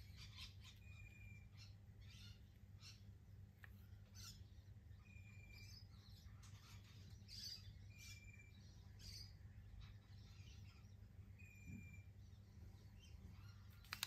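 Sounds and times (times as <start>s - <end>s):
faint bird chirps: 0.0s - 14.0s
steady low hum: 0.0s - 14.0s.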